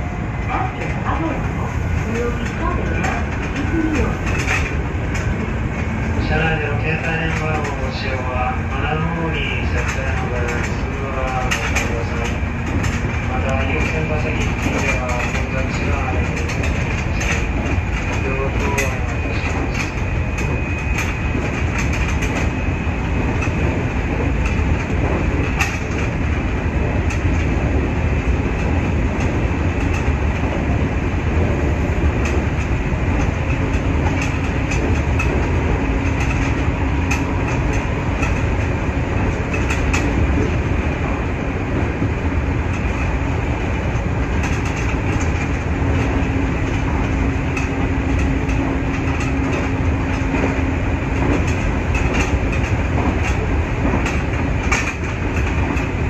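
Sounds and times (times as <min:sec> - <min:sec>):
train wheels rumbling on rails: 0:00.0 - 0:56.0
wheels clicking over rail joints: 0:00.8 - 0:56.0.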